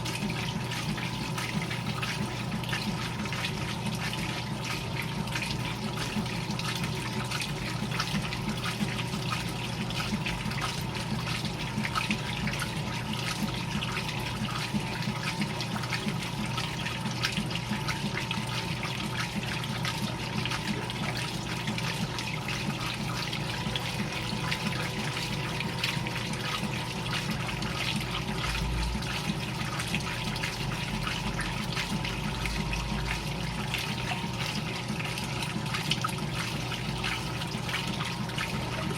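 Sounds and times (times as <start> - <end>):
washing machine motor hum: 0.0 - 38.9
water churning and splashing: 0.0 - 38.9.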